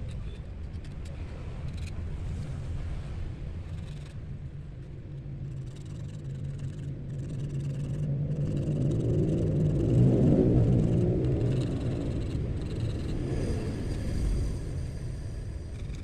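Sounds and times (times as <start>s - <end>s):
low motor rumble: 0.0s - 16.0s.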